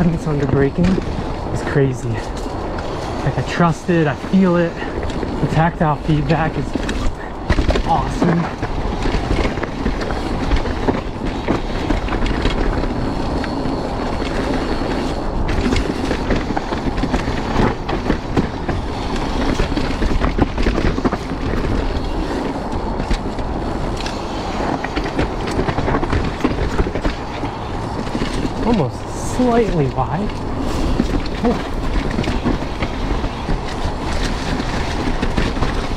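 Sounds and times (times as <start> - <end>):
bike rattling: 0.0 - 35.9
tyres rumbling over dirt: 0.0 - 35.9.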